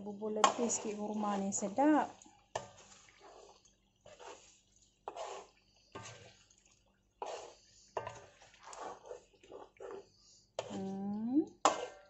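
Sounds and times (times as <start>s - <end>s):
ladle scraping in a wok: 0.4s - 10.9s, 11.6s - 12.0s.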